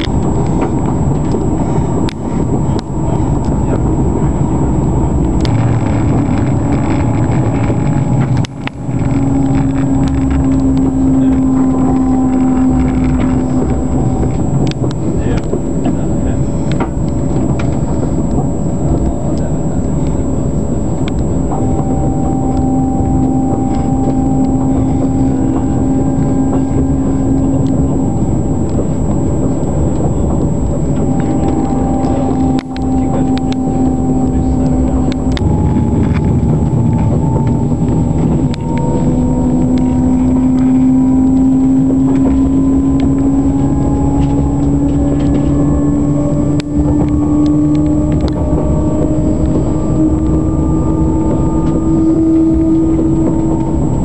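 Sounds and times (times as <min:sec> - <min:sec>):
low hum: 0:00.0 - 0:54.0
train wheels rumbling on rails: 0:00.0 - 0:54.0.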